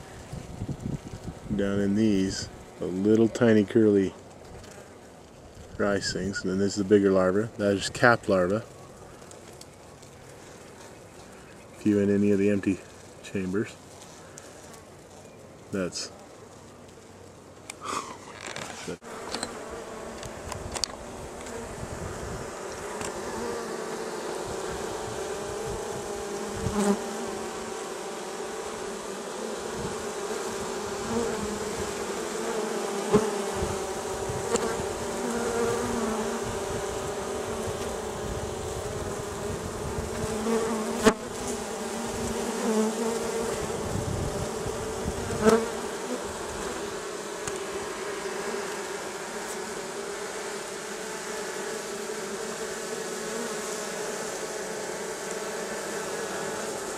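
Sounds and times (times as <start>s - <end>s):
honeybees buzzing: 0.0s - 56.9s.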